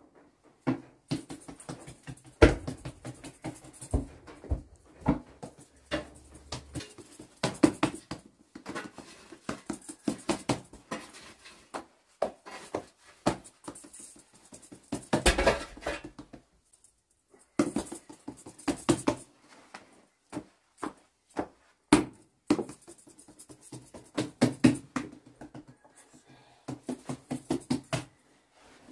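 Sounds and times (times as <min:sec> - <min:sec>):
hands patting and slapping dough: 0:00.6 - 0:15.4, 0:16.0 - 0:16.5, 0:17.5 - 0:28.2.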